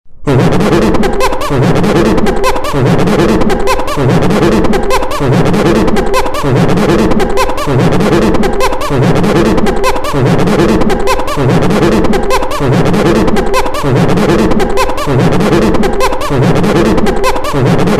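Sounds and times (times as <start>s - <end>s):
voice-changed laughing hoots: 0.3s - 17.9s.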